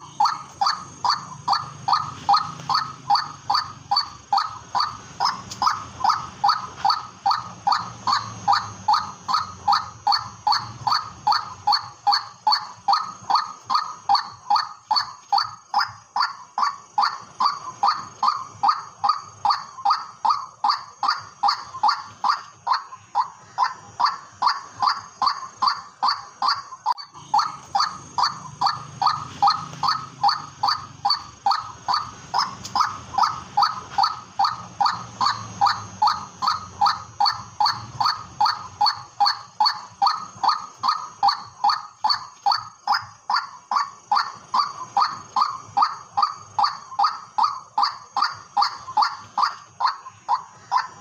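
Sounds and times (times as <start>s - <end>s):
waterhen calling: 0.0s - 51.0s.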